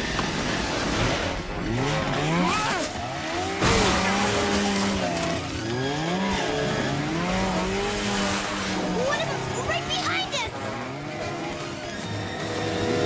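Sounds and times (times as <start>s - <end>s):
snowmobile engines revving: 0.0s - 13.0s.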